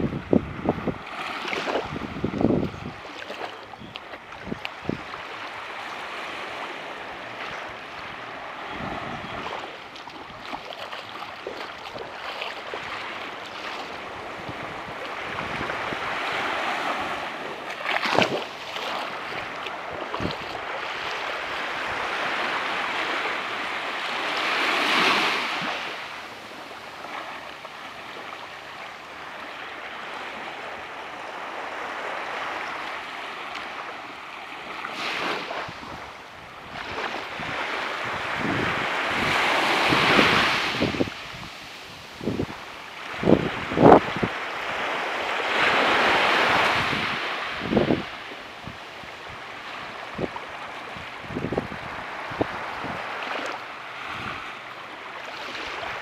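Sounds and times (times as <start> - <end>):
waves washing onto beach: 0.0 - 56.0.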